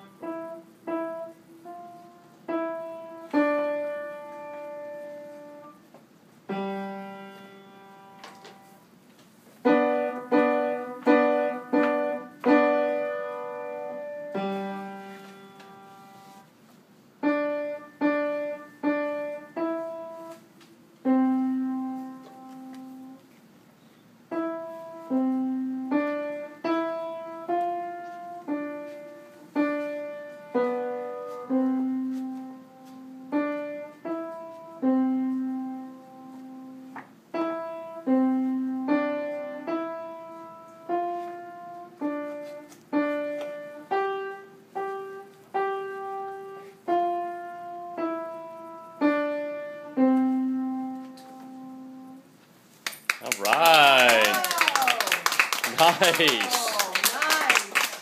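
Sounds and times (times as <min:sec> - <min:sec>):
upright piano played slowly: 0:00.0 - 0:52.4.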